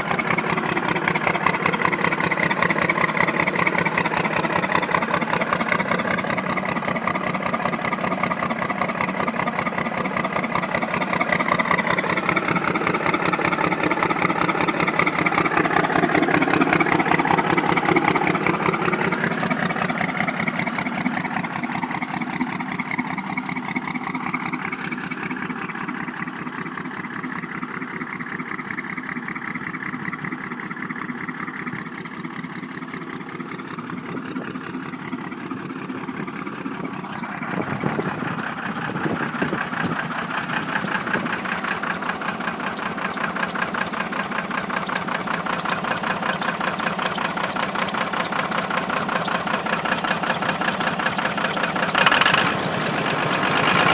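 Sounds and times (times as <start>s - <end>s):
diesel engine running and revving: 0.0s - 53.9s.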